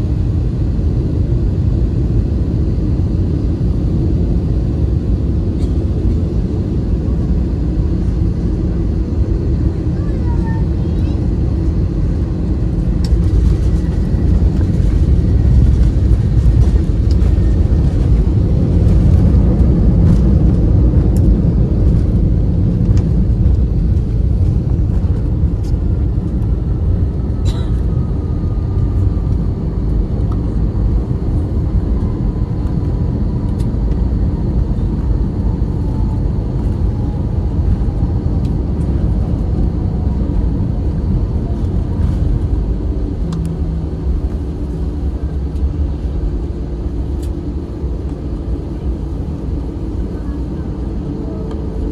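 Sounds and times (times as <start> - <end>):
plane engines and wheels rumbling: 0.0 - 51.9.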